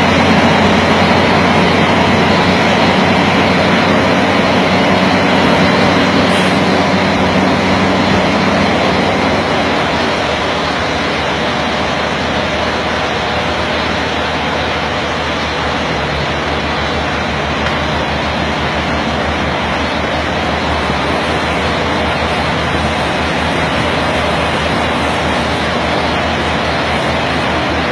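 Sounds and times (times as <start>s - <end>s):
road and wind noise: 0.0s - 27.9s
truck diesel engine running: 0.0s - 27.9s.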